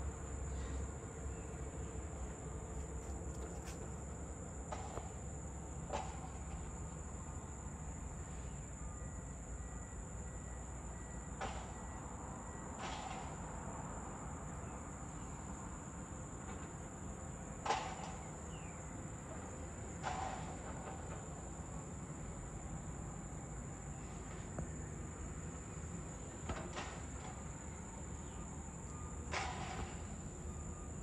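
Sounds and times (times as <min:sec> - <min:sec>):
insects buzzing: 0:00.0 - 0:12.8, 0:13.4 - 0:31.0.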